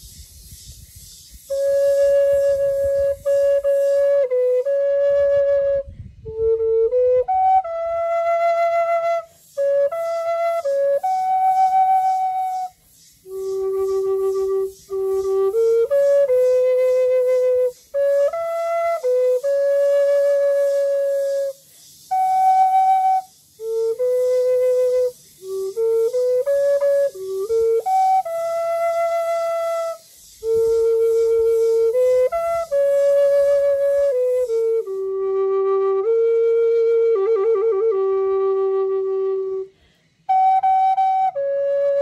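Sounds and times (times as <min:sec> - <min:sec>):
bamboo flute melody: 0:01.4 - 0:42.0.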